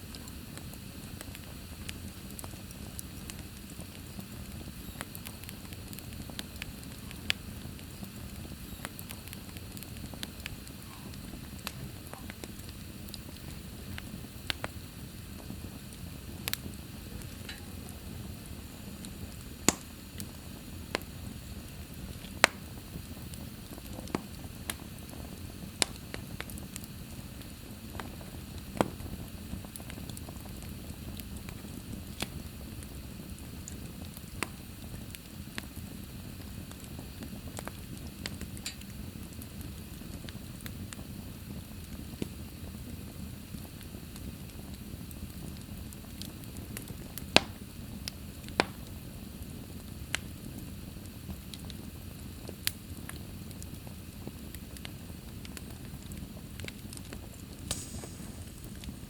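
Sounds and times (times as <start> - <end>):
fire popping: 0.0 - 59.0
wood fire crackling: 0.0 - 59.0.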